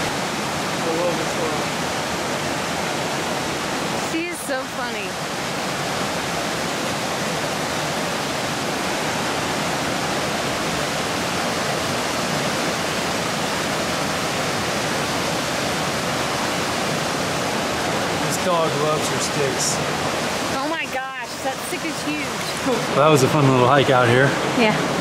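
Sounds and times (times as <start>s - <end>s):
small waterfall pouring into pool: 0.0s - 25.0s.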